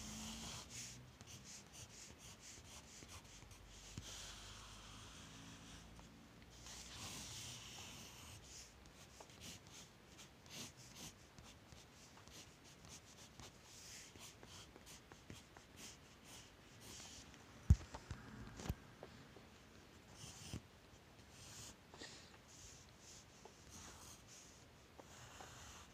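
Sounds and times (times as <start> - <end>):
pencil scratching on paper: 0.0 - 17.2, 20.1 - 20.6, 21.3 - 21.8, 22.5 - 25.9.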